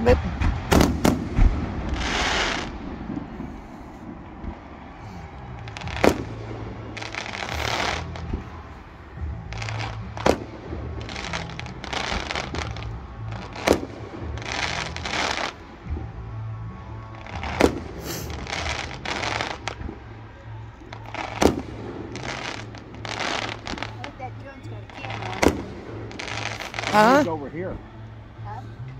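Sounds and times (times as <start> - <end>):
fireworks bangs: 0.0 - 16.1, 17.0 - 20.2, 20.9 - 27.3
fireworks crackling: 0.0 - 28.4.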